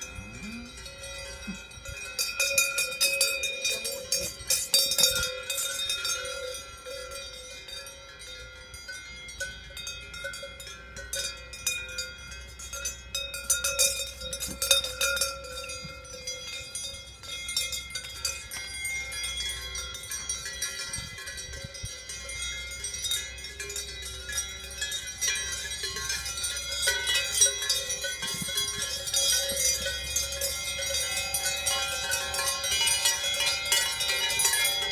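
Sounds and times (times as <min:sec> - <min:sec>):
cowbells clanking: 0:00.0 - 0:34.9.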